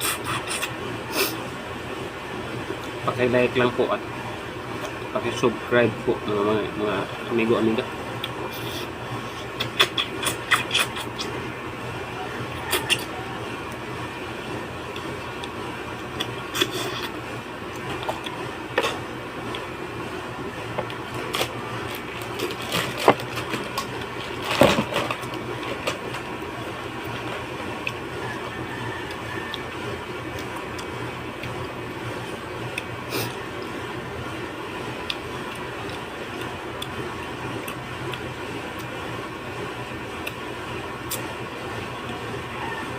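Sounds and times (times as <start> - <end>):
mechanical hum: 0.0 - 42.9.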